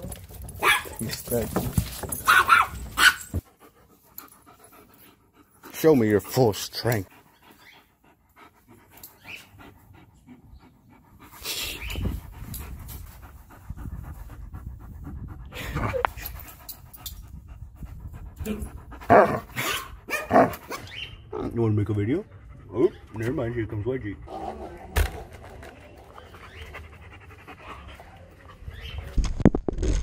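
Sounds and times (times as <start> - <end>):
dog panting: 0.0 - 29.2.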